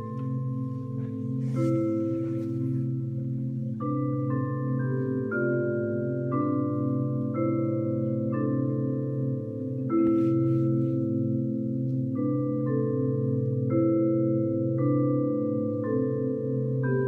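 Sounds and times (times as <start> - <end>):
marimba ensemble chords: 0.0 - 17.0.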